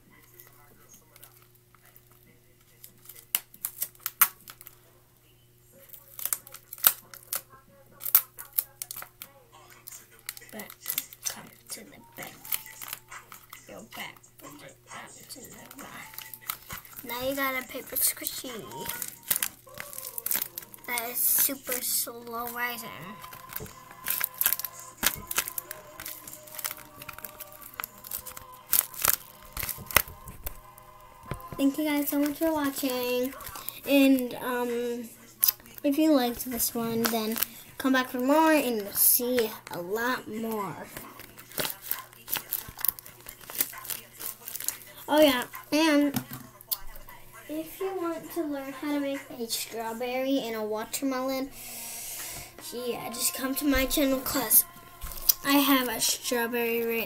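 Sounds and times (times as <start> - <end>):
paper crinkling: 0.1 - 4.8, 5.8 - 50.6, 52.3 - 57.0.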